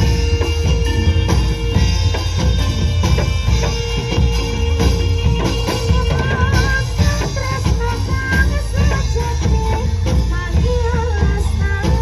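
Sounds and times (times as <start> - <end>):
high wavering melody line: 0.0 - 11.7
drum kit beat: 0.0 - 12.0
heavy bass: 0.0 - 12.0
live band dance music: 0.0 - 12.0.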